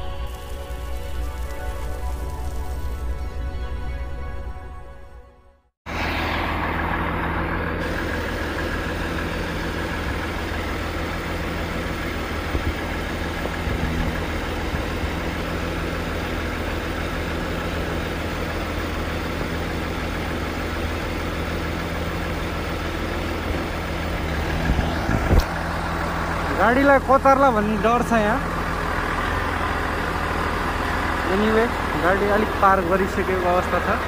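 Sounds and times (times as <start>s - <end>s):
truck engine running steadily: 0.0s - 3.3s, 5.9s - 34.0s.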